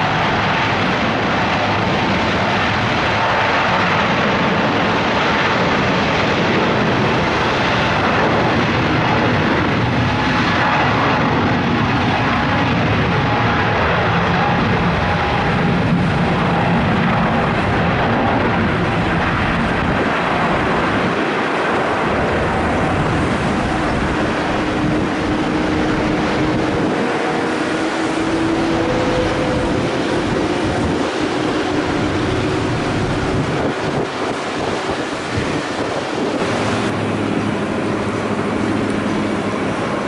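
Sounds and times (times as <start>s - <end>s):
jet engines at takeoff power: 0.0s - 40.0s.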